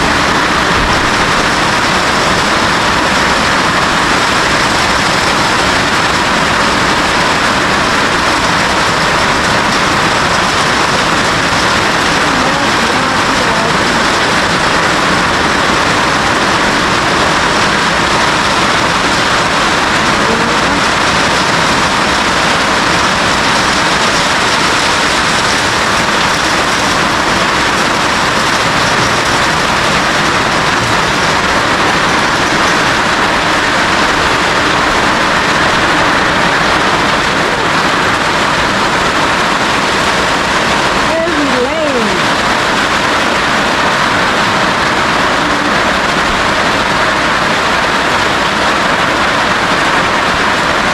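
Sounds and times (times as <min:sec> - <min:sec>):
heavy rain on a roof: 0:00.0 - 0:50.9.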